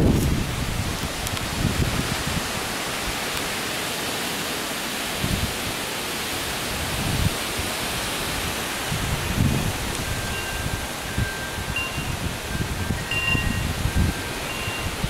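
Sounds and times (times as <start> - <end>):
wind gusts buffeting microphone: 0.0 - 3.9, 5.0 - 15.0
heavy rain: 0.0 - 15.0.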